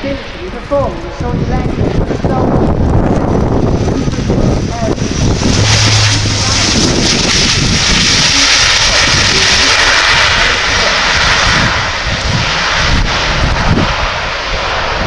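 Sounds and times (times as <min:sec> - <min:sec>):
turboprop engines and propellers: 0:00.0 - 0:15.0.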